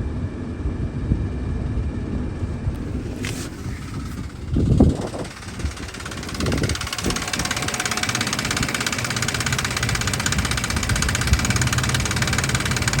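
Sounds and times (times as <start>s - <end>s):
truck engine idling: 2.4s - 13.0s.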